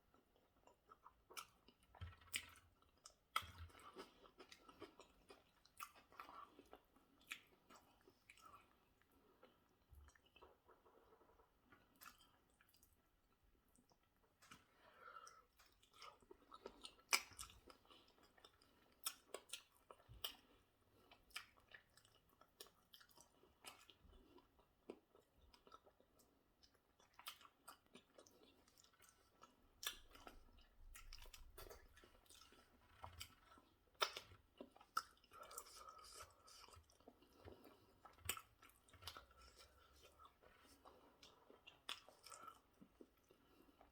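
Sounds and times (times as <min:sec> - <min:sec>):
chewing and eating sounds: 0:00.0 - 0:43.9.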